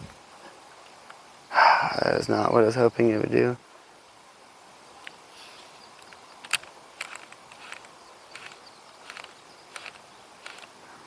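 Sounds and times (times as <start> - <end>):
faint insect chirring: 0.2 - 11.0.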